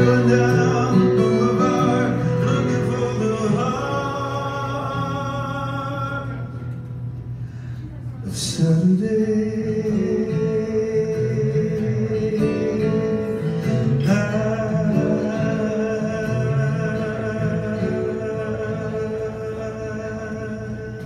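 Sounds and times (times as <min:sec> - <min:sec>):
acoustic guitars playing: 0:00.0 - 0:21.0.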